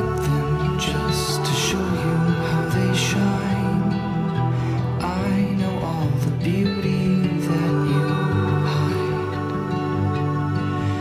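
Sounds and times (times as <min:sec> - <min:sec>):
slow soft background music: 0:00.0 - 0:11.0.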